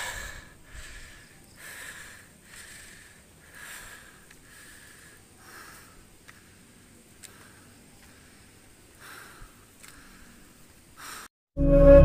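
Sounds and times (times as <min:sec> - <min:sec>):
person breathing hard: 0:00.0 - 0:11.3.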